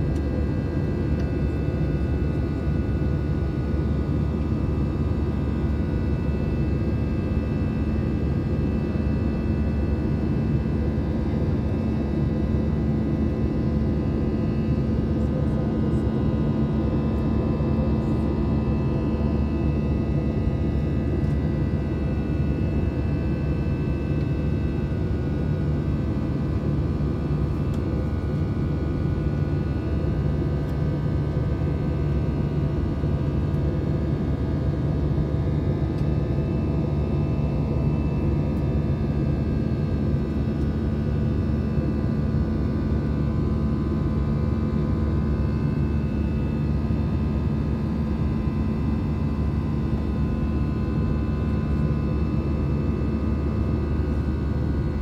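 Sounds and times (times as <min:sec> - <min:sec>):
airliner cabin engine roar: 0:00.0 - 0:55.0.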